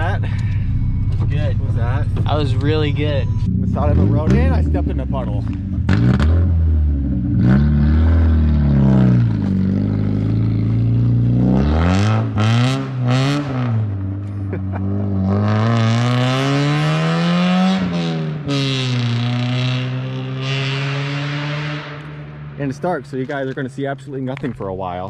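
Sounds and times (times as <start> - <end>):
car engine revving loud exhaust: 0.0 - 24.2.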